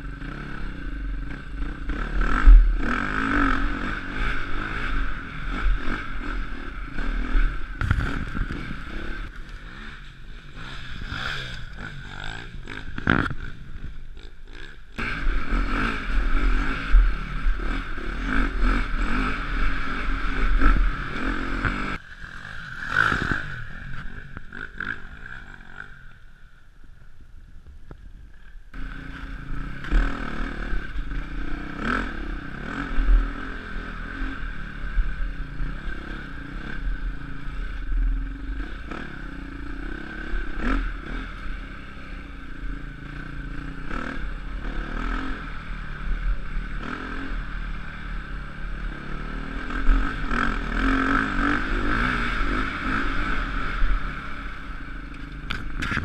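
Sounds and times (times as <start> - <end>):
dirt bike engine revving: 0.0 - 26.2, 28.7 - 56.0.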